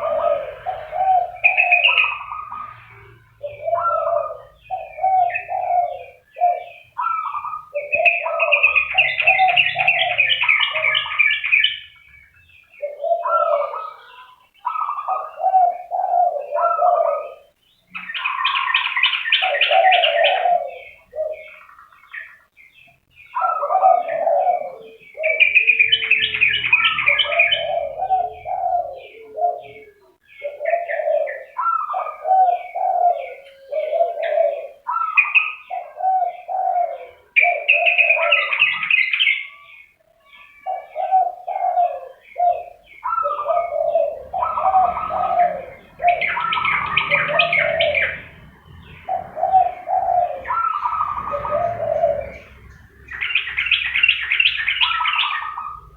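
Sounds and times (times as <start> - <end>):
doves cooing: 0.0 - 55.9.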